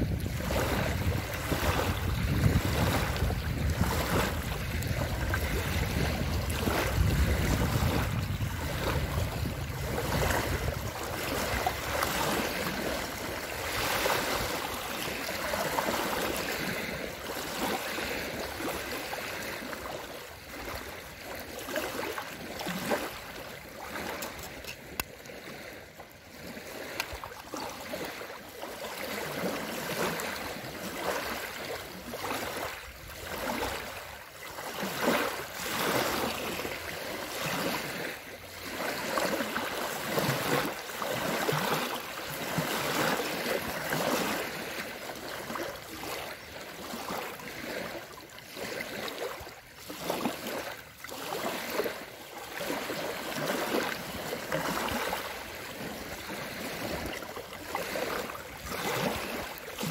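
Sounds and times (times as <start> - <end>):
waves lapping on stone shore: 0.0 - 59.9.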